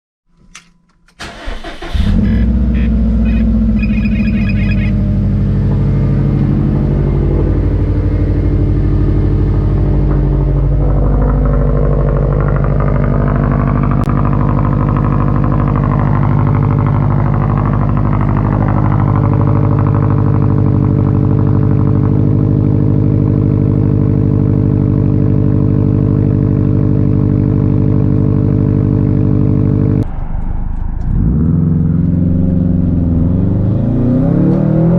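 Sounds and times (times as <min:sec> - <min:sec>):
car engine starting and idling: 0:00.3 - 0:34.9.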